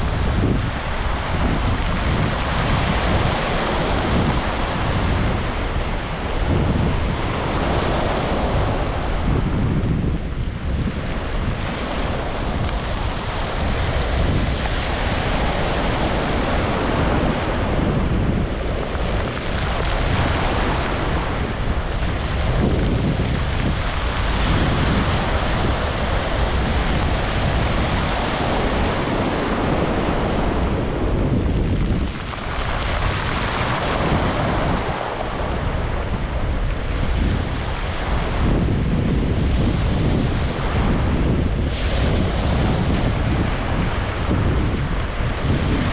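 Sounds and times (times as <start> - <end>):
waves breaking on beach: 0.0 - 45.9
wind buffeting microphone: 0.0 - 45.9.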